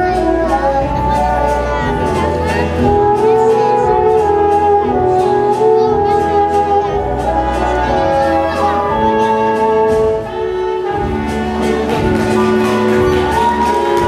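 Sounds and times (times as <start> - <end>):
waltz music: 0.0 - 14.0.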